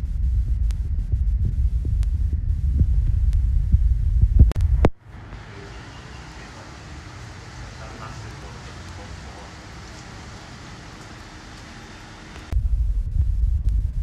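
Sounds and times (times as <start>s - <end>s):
wind buffeting microphone: 0.0s - 5.7s, 6.3s - 14.0s
outdoor background hiss: 0.0s - 12.7s.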